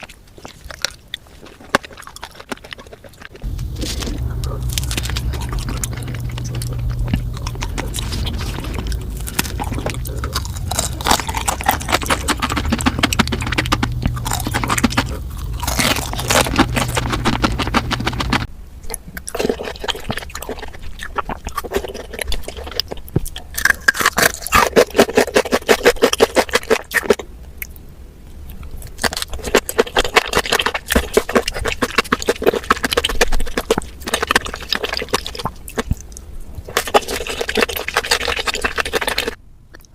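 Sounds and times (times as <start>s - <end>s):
chewing and crunching sweets: 0.0s - 39.9s.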